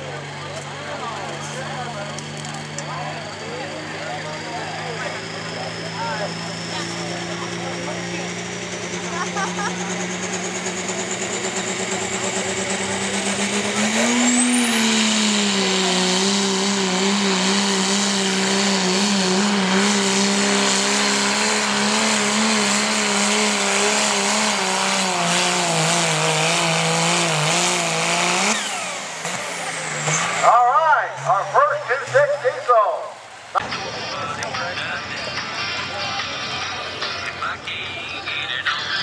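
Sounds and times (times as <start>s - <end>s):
diesel engine under heavy load: 0.0s - 39.0s.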